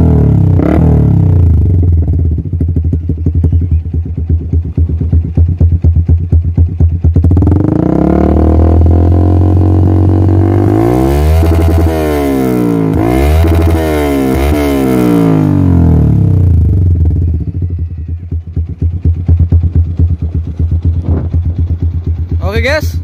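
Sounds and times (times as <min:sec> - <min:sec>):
motorcycle engine revving and idling: 0:00.0 - 0:23.0.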